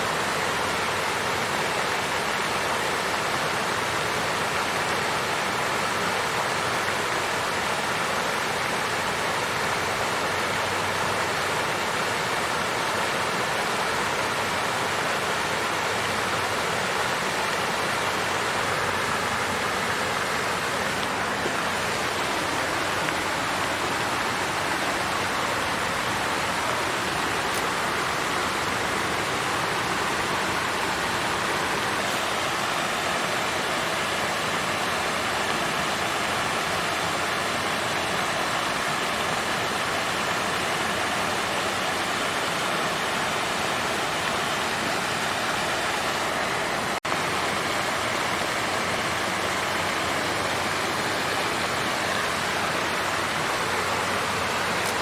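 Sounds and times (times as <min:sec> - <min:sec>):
water fountain splashing: 0:00.0 - 0:55.0.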